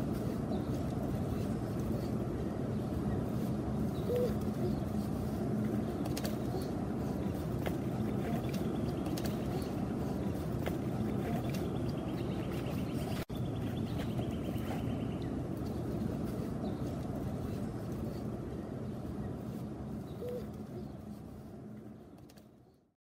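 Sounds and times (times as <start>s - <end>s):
low outdoor rumble: 0.0s - 22.9s.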